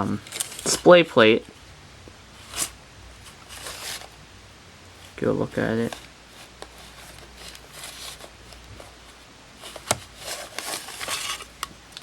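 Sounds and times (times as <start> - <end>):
plastic packaging rustling: 0.0 - 1.2, 2.4 - 4.2, 5.0 - 12.0.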